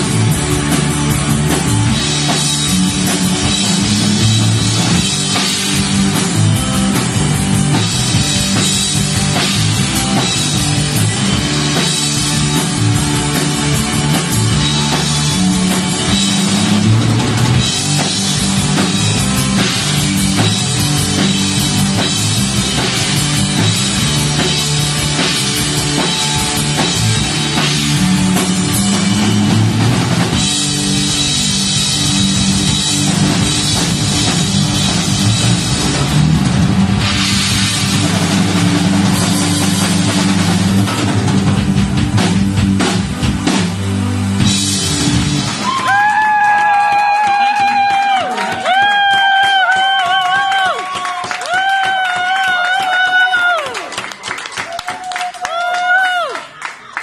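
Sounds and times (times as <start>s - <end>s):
rock band playing live: 0.0s - 54.8s
drum kit: 0.0s - 56.3s.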